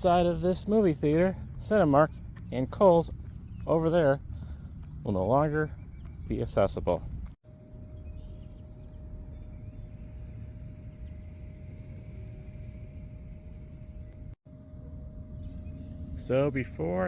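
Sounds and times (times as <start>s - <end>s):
small birds chirping: 0.0s - 14.8s
faint steady hum: 0.0s - 17.0s
steady low rumble: 0.0s - 17.0s.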